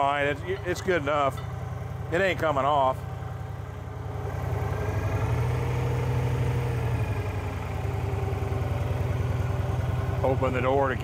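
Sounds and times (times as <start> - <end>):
motorcycle engine idling: 0.0 - 5.0, 6.0 - 11.0.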